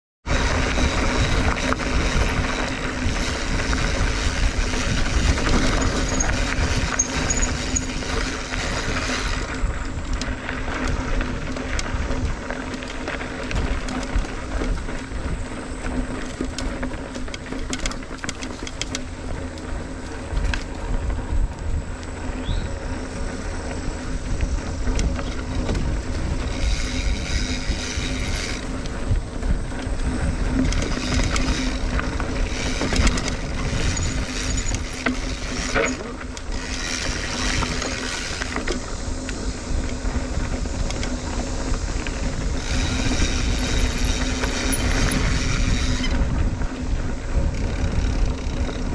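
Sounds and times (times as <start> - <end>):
bike rattles and clicks: 0.2 - 48.9
tyres rumbling on dirt: 0.2 - 48.9.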